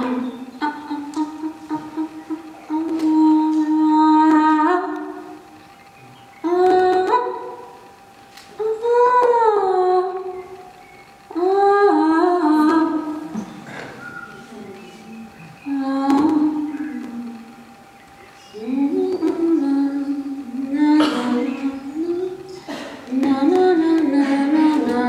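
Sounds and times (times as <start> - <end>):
woman singing wordless notes: 0.0 - 5.6, 6.4 - 13.6, 14.2 - 25.0.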